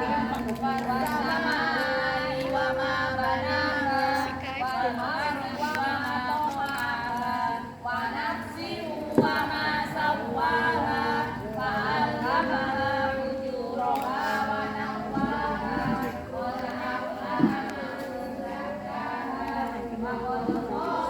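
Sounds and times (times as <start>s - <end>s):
voices singing together: 0.0s - 21.0s.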